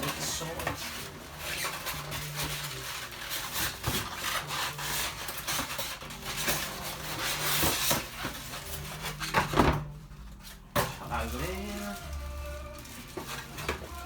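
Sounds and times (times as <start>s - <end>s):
cardboard rubbing and scraping: 0.0s - 14.0s.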